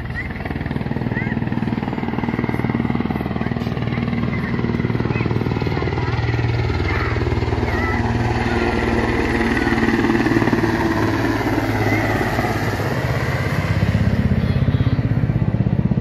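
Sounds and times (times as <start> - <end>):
helicopter rotor beating: 0.0 - 16.0.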